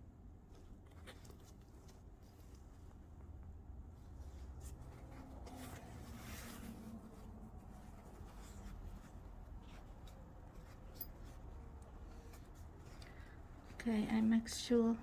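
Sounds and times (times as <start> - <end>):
fabric and zipper rustling: 0.1 - 15.0.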